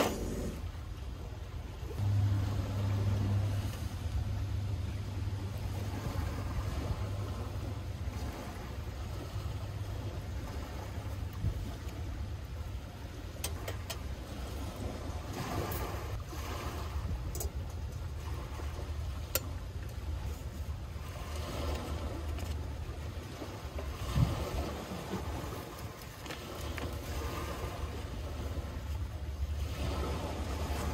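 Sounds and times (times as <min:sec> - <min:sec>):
surf: 0:00.0 - 0:30.9
wind: 0:00.0 - 0:30.9.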